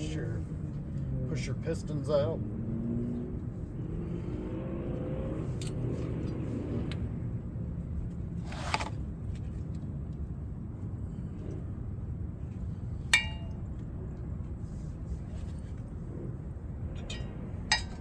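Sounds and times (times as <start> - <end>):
motor vehicle engine rumble: 0.0 - 18.0.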